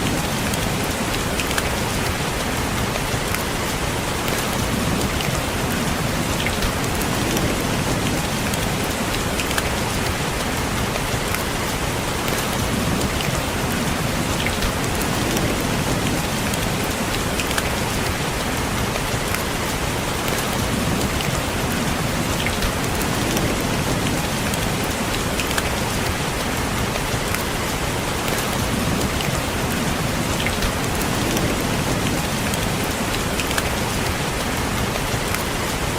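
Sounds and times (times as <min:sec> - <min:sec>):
steady rain: 0:00.0 - 0:35.9
raindrops tapping on a window: 0:00.1 - 0:35.9.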